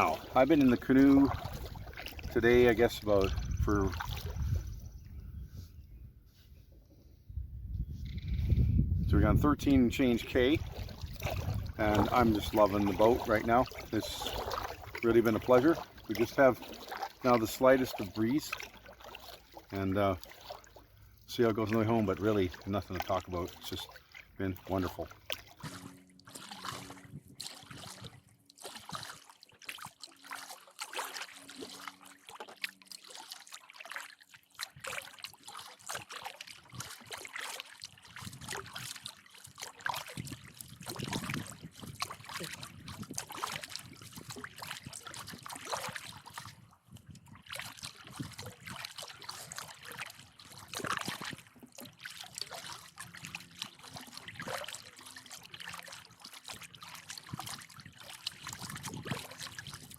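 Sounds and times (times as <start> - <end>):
paddle splashing water: 0.0 - 5.7, 9.2 - 59.9.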